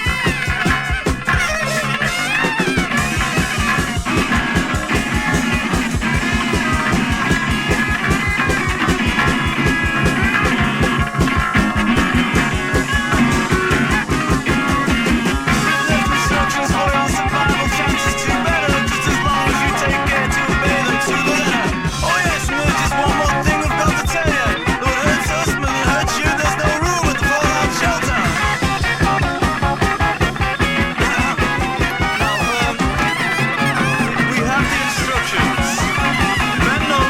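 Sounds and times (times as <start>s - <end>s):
post-punk band music: 0.0s - 37.0s.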